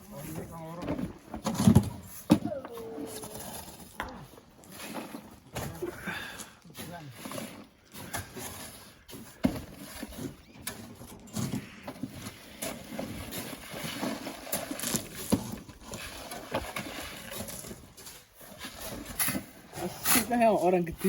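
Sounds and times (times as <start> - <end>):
shovels scraping and knocking sand: 0.1 - 21.0.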